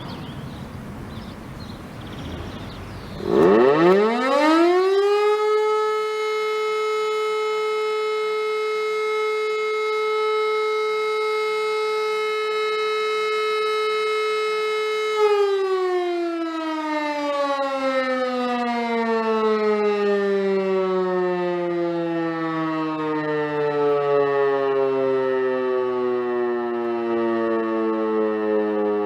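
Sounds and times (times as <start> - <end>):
electric motor siren winding down: 3.2 - 29.0.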